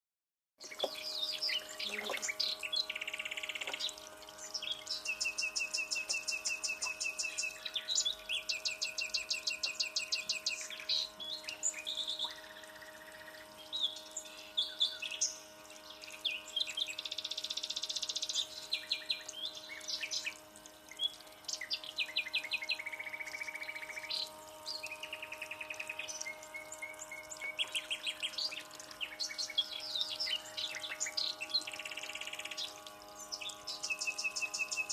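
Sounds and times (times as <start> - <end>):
faint steady hum: 0.6 - 34.9
songbirds chirping and trilling: 0.6 - 34.9.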